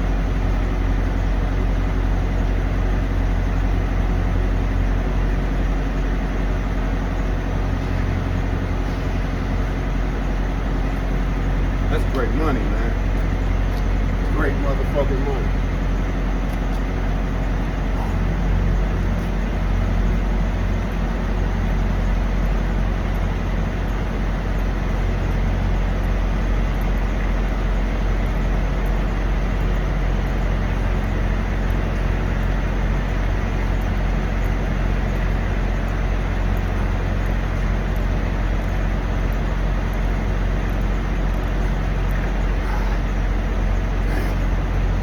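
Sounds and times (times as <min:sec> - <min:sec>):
diesel truck engines idling: 0:00.0 - 0:45.0.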